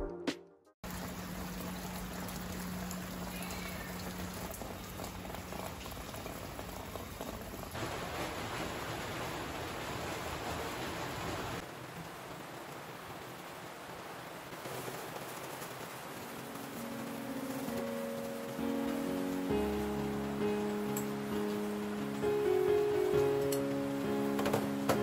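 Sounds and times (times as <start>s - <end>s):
steady rain falling: 0.8s - 25.0s.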